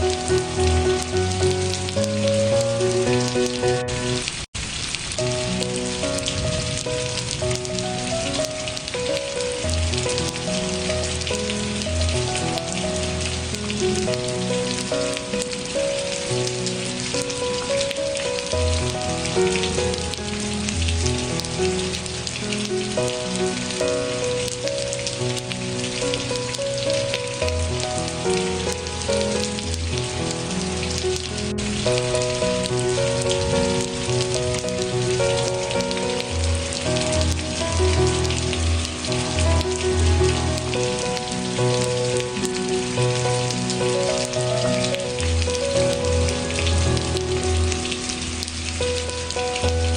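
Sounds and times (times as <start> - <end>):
soft instrumental music: 0.0 - 4.5, 5.1 - 49.9
steady rain falling: 0.0 - 49.9.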